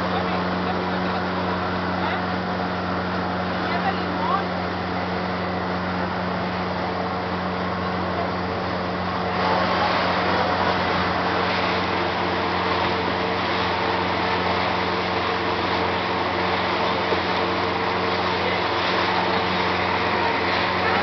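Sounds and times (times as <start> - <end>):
boat motor hum: 0.0 - 21.0.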